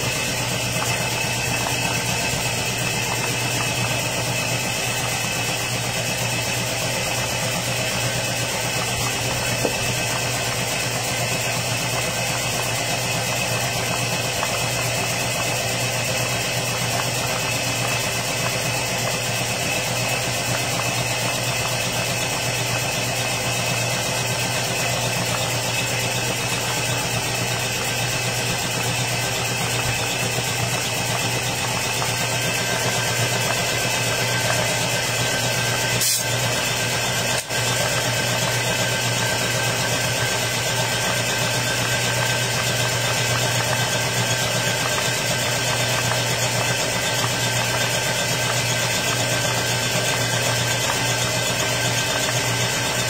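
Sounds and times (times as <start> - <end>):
air compressor running: 0.0 - 53.0.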